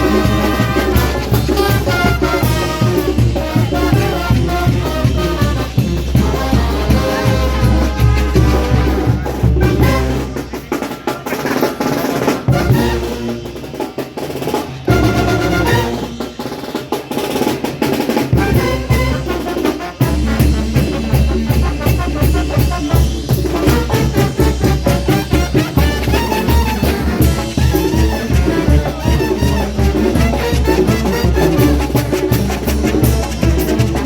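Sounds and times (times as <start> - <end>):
brass band playing dance tune: 0.0 - 34.0.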